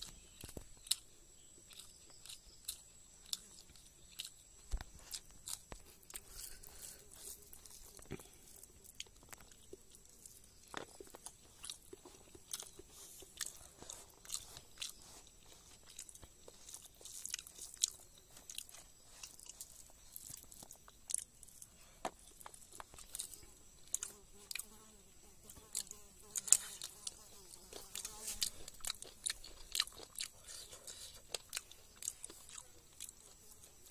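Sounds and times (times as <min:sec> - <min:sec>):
person chewing crunchy food: 0:00.0 - 0:33.9.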